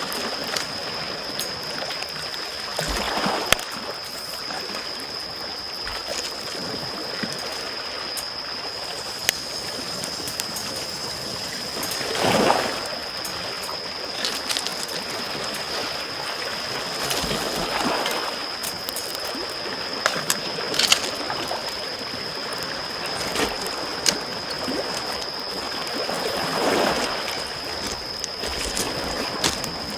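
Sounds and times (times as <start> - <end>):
campfire crackling: 0.0 - 29.9
small waves lapping: 0.0 - 29.9.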